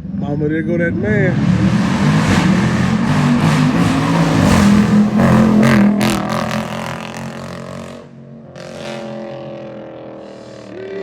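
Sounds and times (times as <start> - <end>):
loud car engine accelerating: 0.0 - 11.0.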